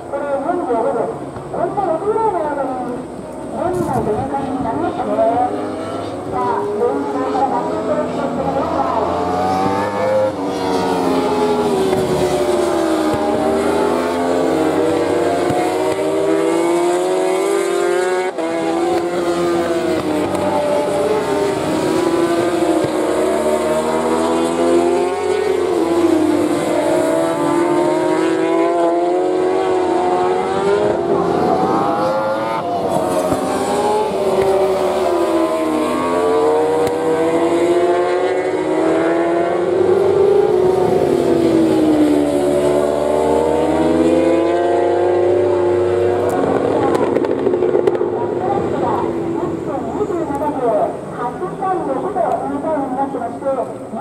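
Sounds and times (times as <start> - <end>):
motorcycle engines racing: 0.0 - 54.0.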